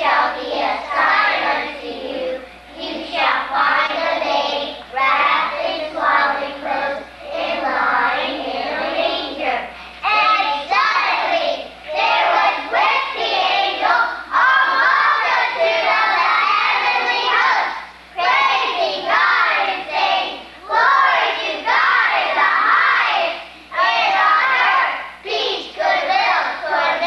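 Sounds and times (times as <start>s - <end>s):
children's choir singing: 0.0s - 27.0s.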